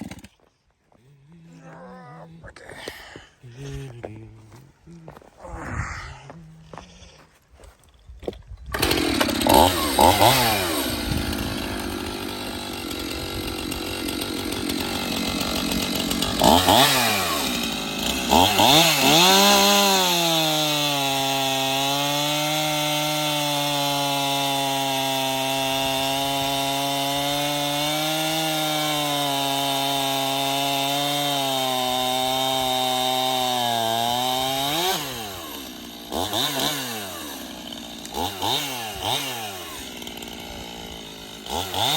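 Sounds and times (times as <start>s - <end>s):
chainsaw revving: 0.0s - 0.4s, 8.7s - 41.9s.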